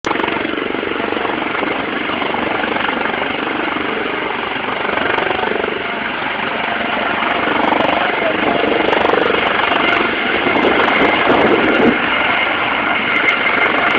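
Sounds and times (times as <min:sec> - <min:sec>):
helicopter rotor chopping: 0:00.0 - 0:13.9.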